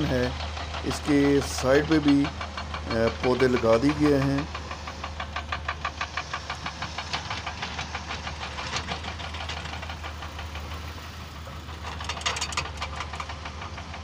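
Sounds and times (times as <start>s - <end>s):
car engine droning: 0.0s - 14.0s
fast even rattle: 0.0s - 14.0s.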